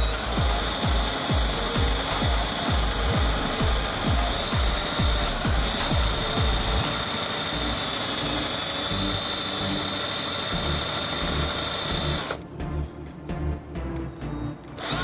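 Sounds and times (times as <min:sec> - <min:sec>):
drill bit rasping wood: 0:00.0 - 0:12.4, 0:14.8 - 0:15.0
electric drill whining: 0:00.0 - 0:12.4, 0:14.8 - 0:15.0.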